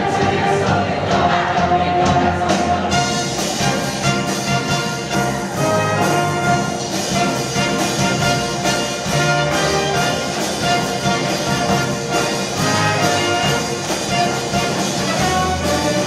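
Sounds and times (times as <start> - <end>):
live band with brass: 0.0 - 16.0.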